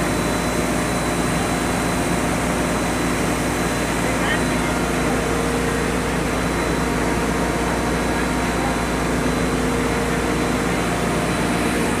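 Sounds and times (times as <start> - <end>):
grinding mill machine drone: 0.0 - 12.0.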